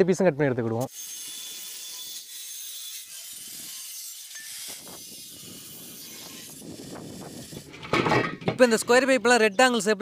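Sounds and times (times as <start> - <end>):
angle grinder cutting steel: 0.8 - 9.4.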